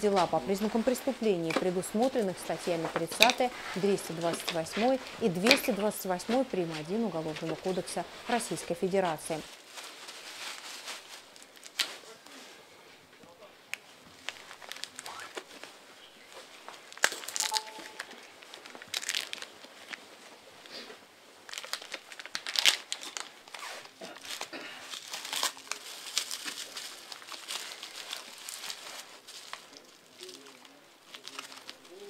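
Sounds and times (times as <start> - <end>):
plastic wrapping crinkling and tearing: 0.0 - 12.4, 13.7 - 15.8, 16.4 - 20.3, 21.3 - 32.0.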